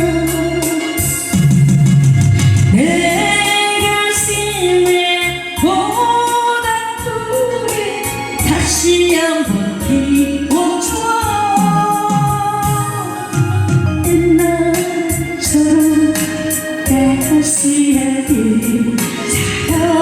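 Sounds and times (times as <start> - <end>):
woman singing a ballad: 0.0 - 1.4, 2.7 - 20.0
electronic keyboard accompaniment: 0.0 - 20.0.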